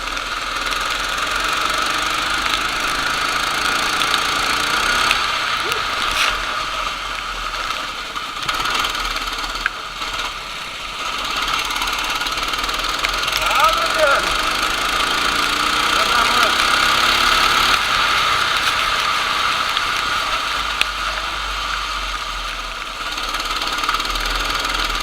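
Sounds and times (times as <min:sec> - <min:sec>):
racing kart engines droning: 0:00.0 - 0:25.0.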